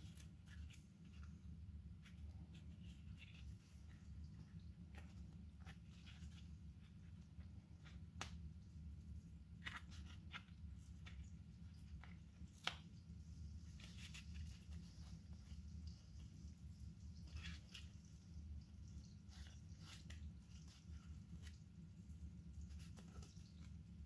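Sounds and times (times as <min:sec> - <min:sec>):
hands clicking and rustling: 0:00.0 - 0:24.0
steady low hum: 0:00.0 - 0:24.0.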